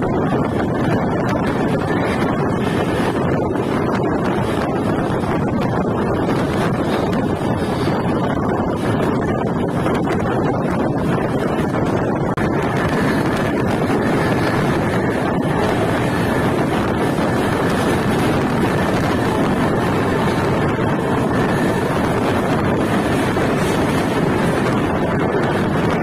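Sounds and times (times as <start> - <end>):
train coaches running at speed: 0.0 - 26.0
wind buffeting microphone: 0.0 - 26.0.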